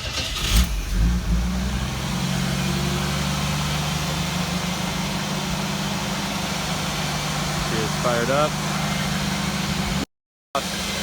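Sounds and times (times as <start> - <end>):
engine starting and idling: 0.0 - 10.0.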